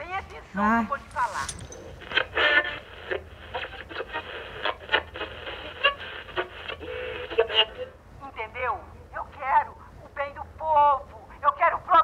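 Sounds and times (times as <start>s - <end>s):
tinny crackly radio broadcast: 0.0s - 12.0s.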